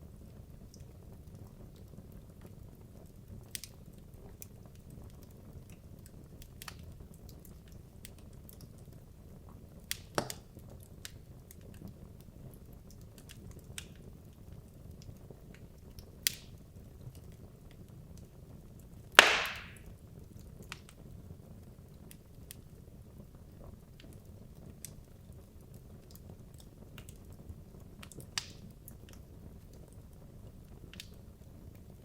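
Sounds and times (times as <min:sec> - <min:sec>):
fire rumbling: 0:00.0 - 0:32.0
wood crackling and popping: 0:00.0 - 0:32.0.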